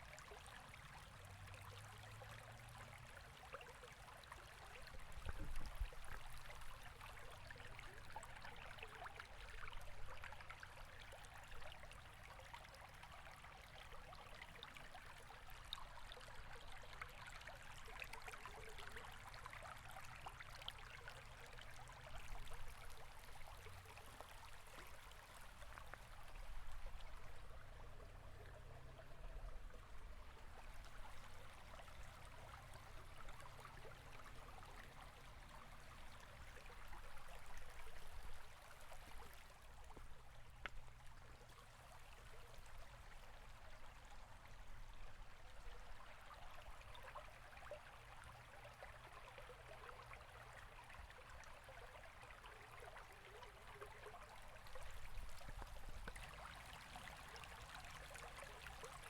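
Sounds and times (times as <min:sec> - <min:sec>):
river flowing: 0:06.2 - 0:59.0.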